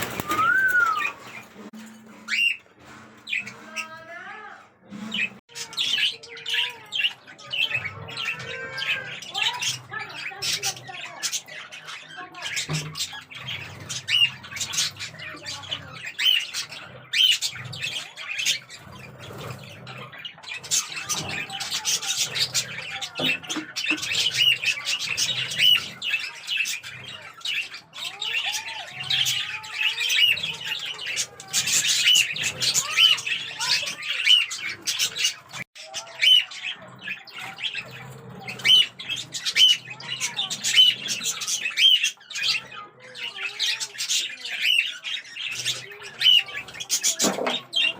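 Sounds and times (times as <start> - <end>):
budgerigars chirping and chattering: 0.0 - 47.9.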